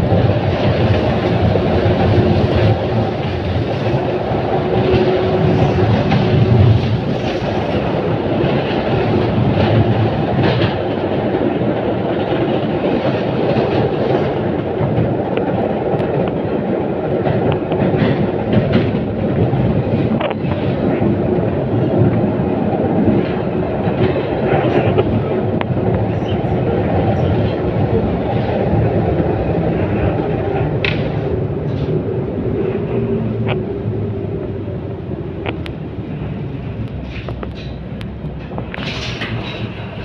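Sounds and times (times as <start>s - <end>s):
tram wheels rumbling on rails: 0.0s - 40.0s.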